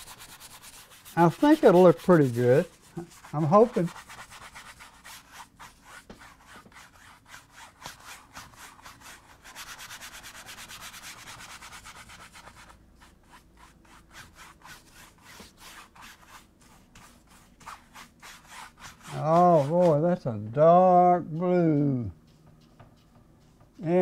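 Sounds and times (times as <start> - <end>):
paintbrush scrubbing canvas: 0.0 - 20.2, 21.0 - 24.0.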